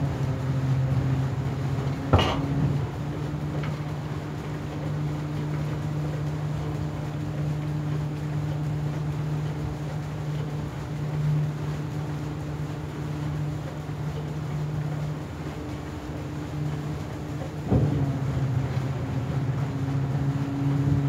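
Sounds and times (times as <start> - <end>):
ferry engine humming: 0.0 - 21.0.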